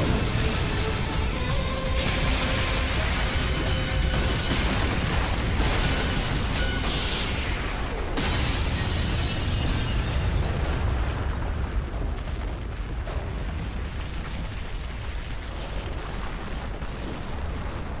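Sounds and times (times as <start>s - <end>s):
explosion rumble: 0.0s - 18.0s.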